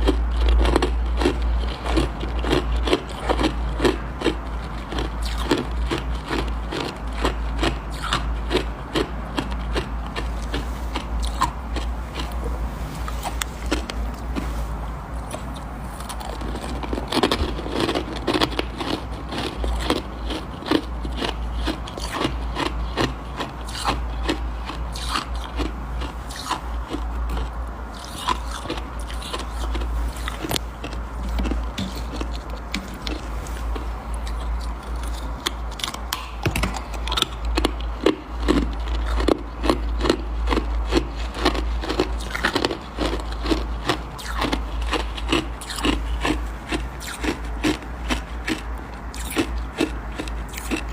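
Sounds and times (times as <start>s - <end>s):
crunching frost and ice: 0.0s - 50.9s.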